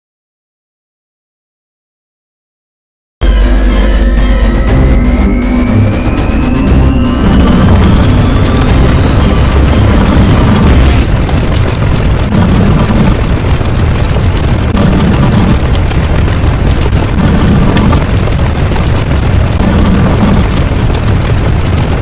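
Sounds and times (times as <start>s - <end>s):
distorted rumbling boom: 3.2s - 22.0s
low pulse: 3.2s - 22.0s.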